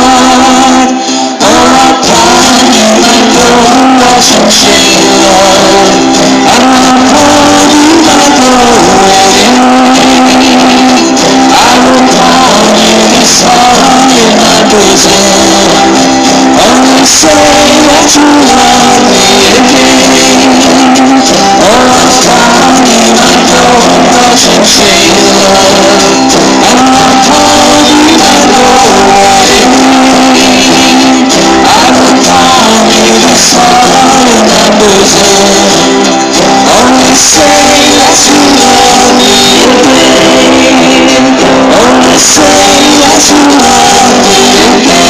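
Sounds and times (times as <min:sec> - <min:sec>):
acoustic country band playing: 0:00.0 - 0:45.0
guitars strumming and picking: 0:00.0 - 0:45.0.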